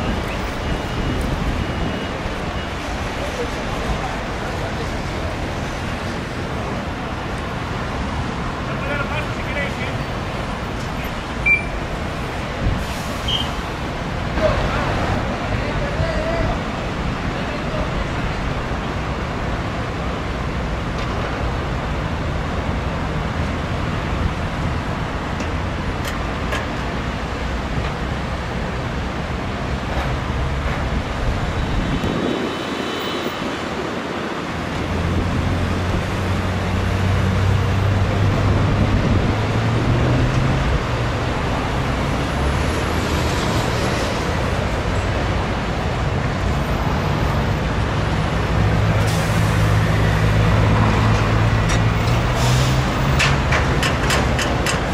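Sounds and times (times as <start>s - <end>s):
diesel truck engines: 0.0s - 54.9s
highway traffic noise: 0.0s - 54.9s.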